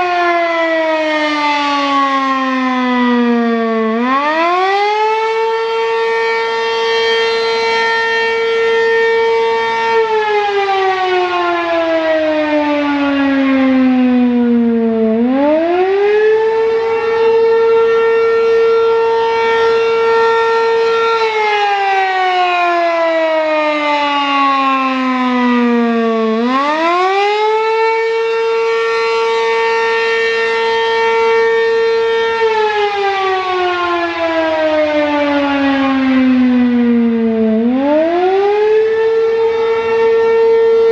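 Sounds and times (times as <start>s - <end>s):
mechanical siren wailing: 0.0s - 40.9s.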